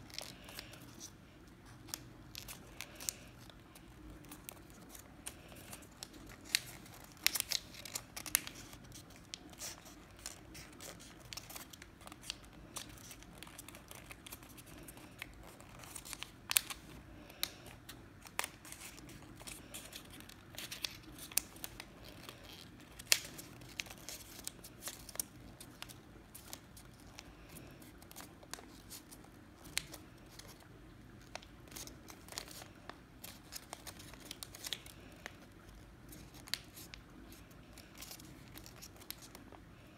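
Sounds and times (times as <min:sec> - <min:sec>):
faint steady hum: 0:00.0 - 0:39.9
paper crinkling and creasing: 0:00.0 - 0:39.9.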